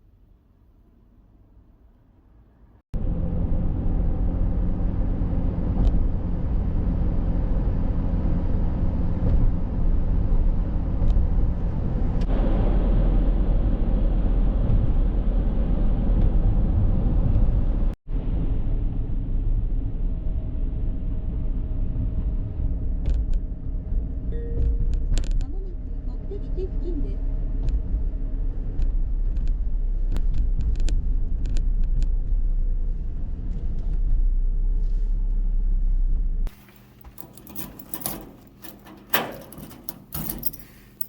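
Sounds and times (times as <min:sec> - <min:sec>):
vehicle engine rumble: 0:00.2 - 0:41.0.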